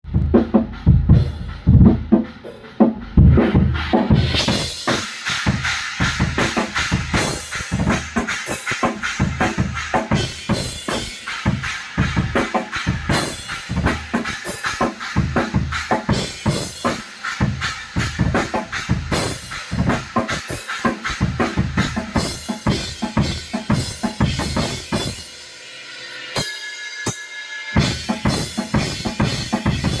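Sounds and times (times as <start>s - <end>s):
drum kit playing: 0.0s - 30.0s.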